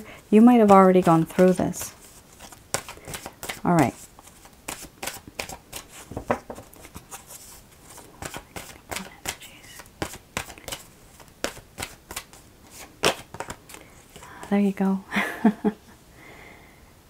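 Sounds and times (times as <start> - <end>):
cards being shuffled: 0.6 - 14.4.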